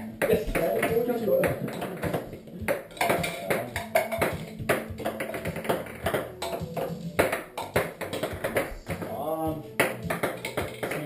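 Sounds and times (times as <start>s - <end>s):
music playing: 0.0s - 11.0s
plastic balls tapping on wooden table: 0.0s - 11.0s.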